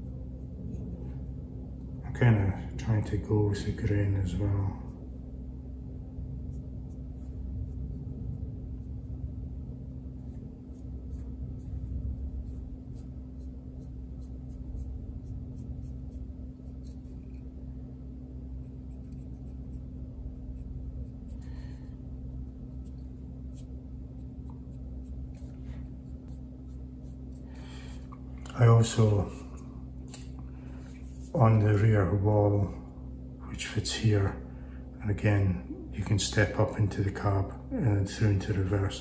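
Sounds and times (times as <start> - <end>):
paintbrush scratching on plastic: 0.0 - 5.4, 6.4 - 32.3
steady low hum: 0.0 - 39.0.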